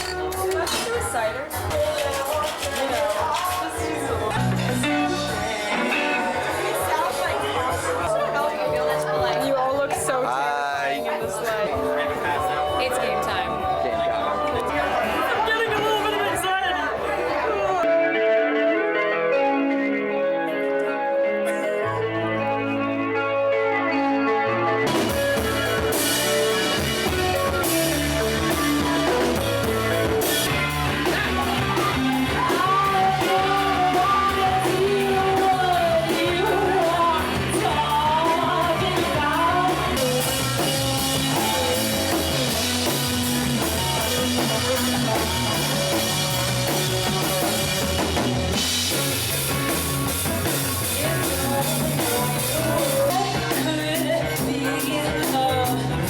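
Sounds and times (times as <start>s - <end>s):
person singing: 0.0s - 14.9s, 17.9s - 48.2s, 50.3s - 56.0s
drum kit: 0.0s - 16.1s, 24.5s - 56.0s
guitar: 0.0s - 56.0s
rock music: 0.0s - 56.0s.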